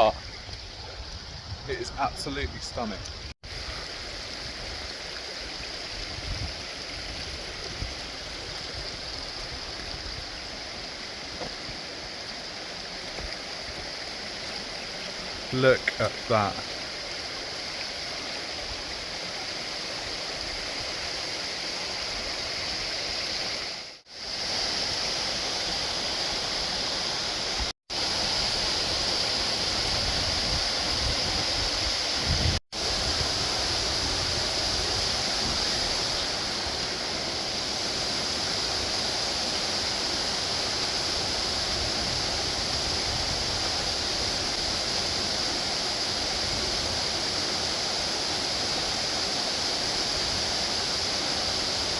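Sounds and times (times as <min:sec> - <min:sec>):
waterfall rushing water: 0:03.5 - 0:51.9.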